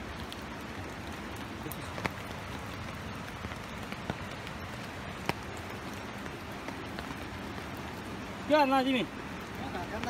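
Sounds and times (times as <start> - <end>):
rushing river water: 0.0 - 10.0.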